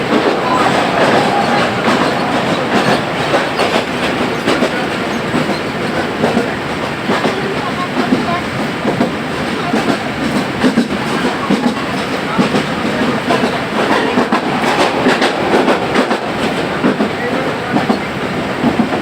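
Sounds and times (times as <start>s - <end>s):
train rumbling on rails: 0.0s - 19.0s
wheels clickety-clack: 0.0s - 19.0s.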